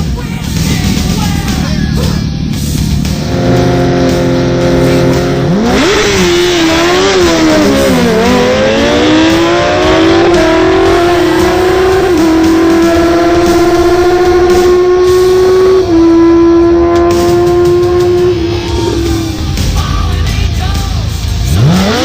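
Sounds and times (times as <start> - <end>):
racing motorcycle engine revving: 0.0 - 22.0
rock music: 0.0 - 22.0.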